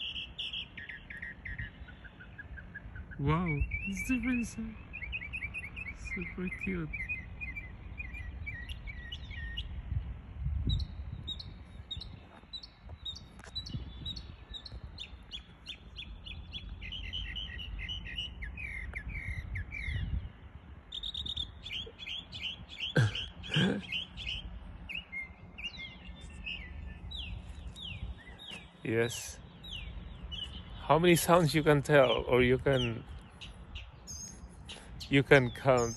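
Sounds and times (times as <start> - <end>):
mockingbird singing: 0.0 - 10.0, 10.6 - 35.9.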